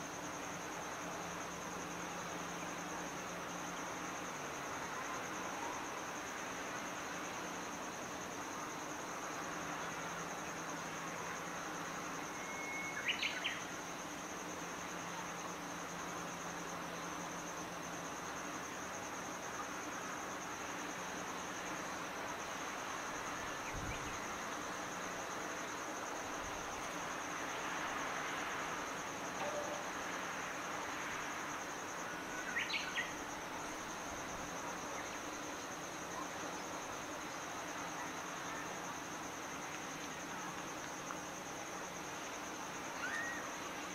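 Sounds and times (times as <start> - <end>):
high-pitched insect trill: 0.0 - 43.9.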